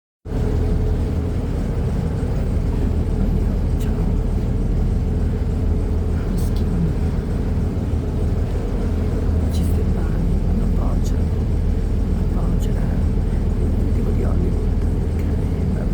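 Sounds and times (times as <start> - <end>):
motorboat engine droning: 0.2 - 15.9.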